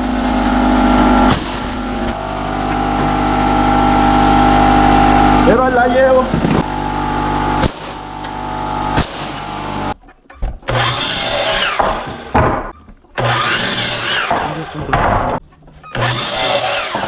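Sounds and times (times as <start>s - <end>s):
power tool humming: 0.0s - 17.0s.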